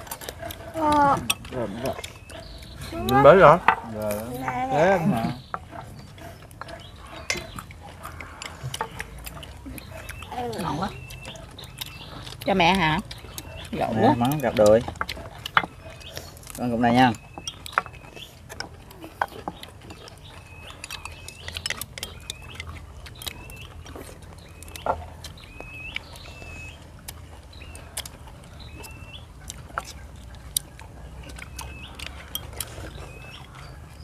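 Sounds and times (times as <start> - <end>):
chopsticks tapping porcelain bowls: 0.0 - 33.9
bird chirping: 0.0 - 34.0.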